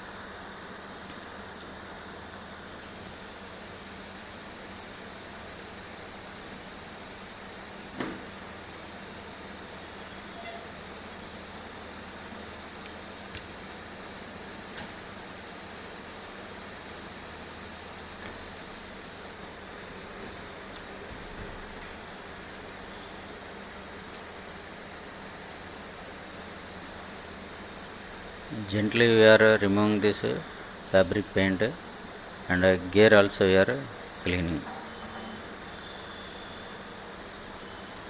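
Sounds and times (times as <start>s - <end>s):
workshop hum and hiss: 0.0s - 38.0s.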